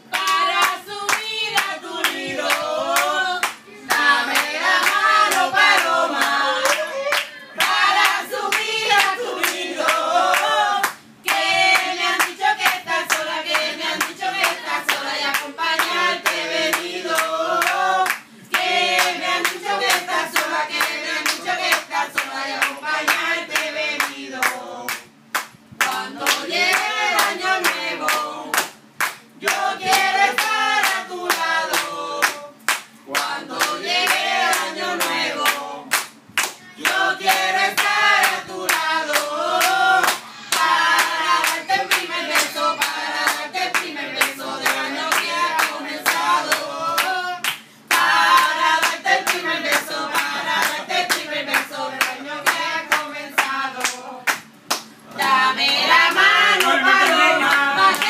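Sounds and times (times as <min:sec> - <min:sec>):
group singing: 0:00.0 - 0:25.2, 0:25.8 - 0:58.0
hand-clapping: 0:00.1 - 0:58.0.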